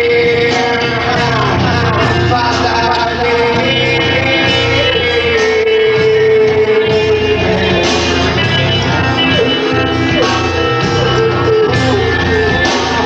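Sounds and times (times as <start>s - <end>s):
live rock band: 0.0s - 13.0s
long held guitar note: 0.0s - 13.0s.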